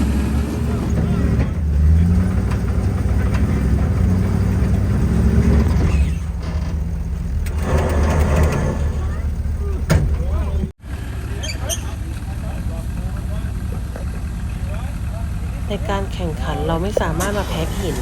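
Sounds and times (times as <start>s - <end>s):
truck engine running at low revs: 0.0s - 18.0s.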